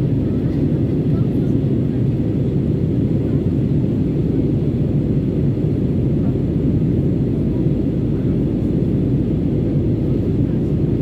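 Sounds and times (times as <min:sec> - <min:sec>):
airplane cabin engine and airflow noise: 0:00.0 - 0:11.0.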